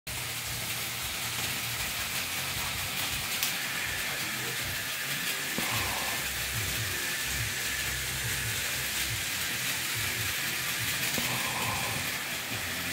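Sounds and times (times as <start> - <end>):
model train motors whirring: 0.1 - 12.9.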